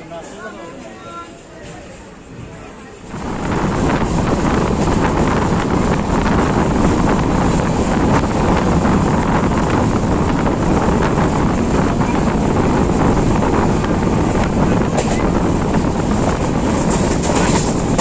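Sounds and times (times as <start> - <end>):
moving train rumble: 0.0 - 18.0
wind buffeting microphone: 3.0 - 18.0.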